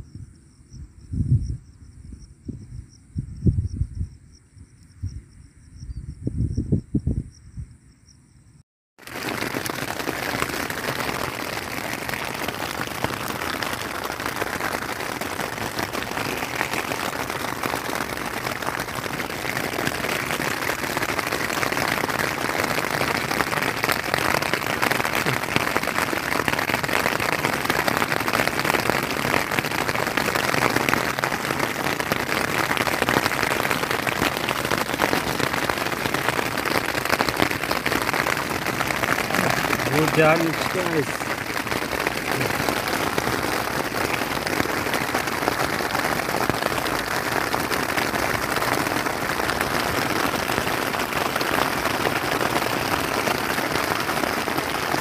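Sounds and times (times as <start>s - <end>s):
heavy rain drumming on a tarp: 9.0s - 55.0s.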